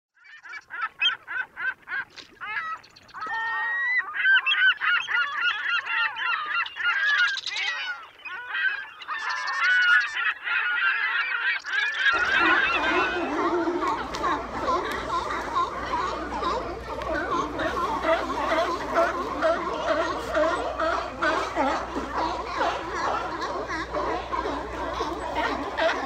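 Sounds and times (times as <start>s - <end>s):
geese honking: 3.2s - 26.0s.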